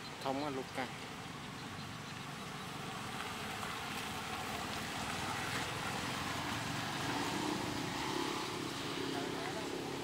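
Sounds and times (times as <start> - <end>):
outdoor background hum and hiss: 0.0 - 10.0.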